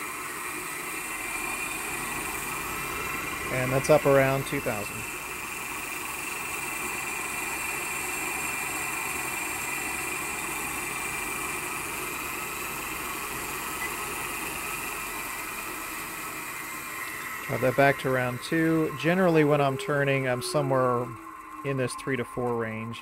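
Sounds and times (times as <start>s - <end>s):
electric motor whining: 0.0s - 23.0s.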